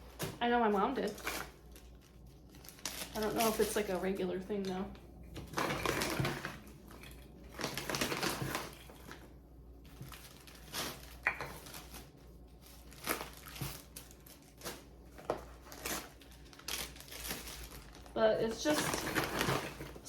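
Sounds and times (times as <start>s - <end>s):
plastic bags crinkling: 0.2s - 4.8s, 5.4s - 20.0s.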